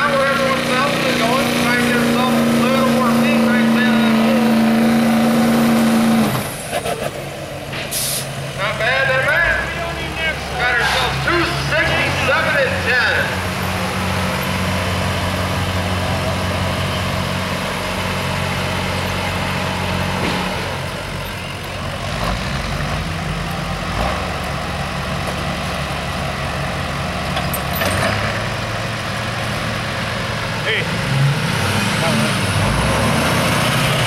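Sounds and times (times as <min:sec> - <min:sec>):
truck engine idling: 0:00.0 - 0:31.2.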